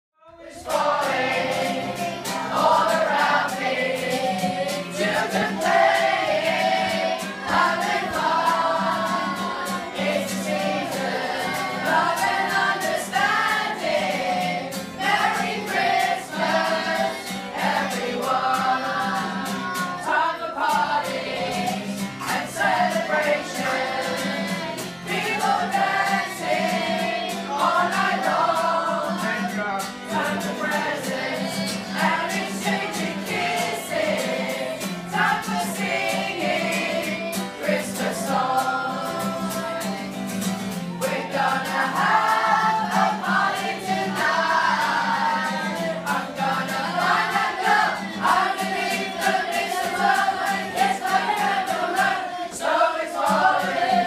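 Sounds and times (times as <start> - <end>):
group of people singing: 0.2 - 54.0
strummed acoustic guitar: 0.4 - 54.0.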